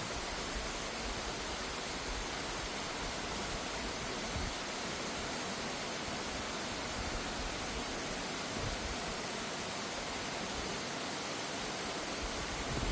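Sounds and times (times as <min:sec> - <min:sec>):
stream rushing: 0:00.0 - 0:12.9.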